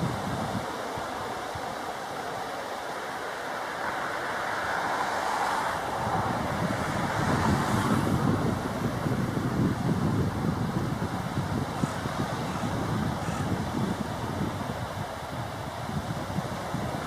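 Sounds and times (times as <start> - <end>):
distant water or traffic: 0.0 - 17.0
wind: 0.0 - 17.0
wind buffeting microphone: 0.0 - 17.0.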